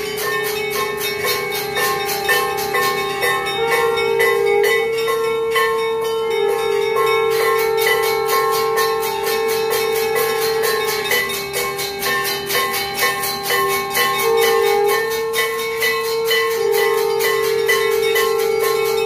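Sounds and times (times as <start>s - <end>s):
brass bell rung rapidly: 0.0s - 19.0s.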